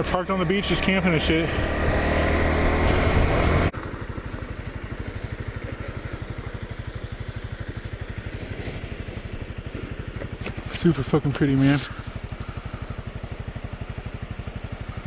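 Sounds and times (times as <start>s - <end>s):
engine pulsing at low revs: 0.0s - 15.0s
motorcycle engine running: 0.0s - 15.0s.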